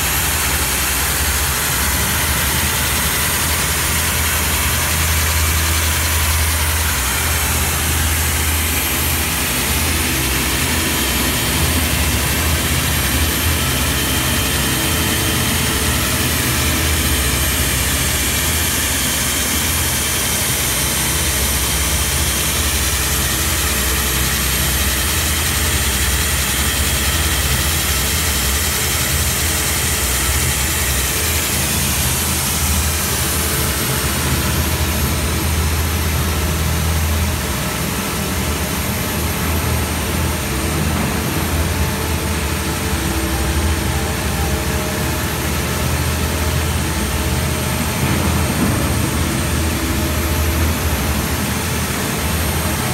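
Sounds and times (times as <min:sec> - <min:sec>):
core drill grinding into concrete: 0:00.0 - 0:43.9.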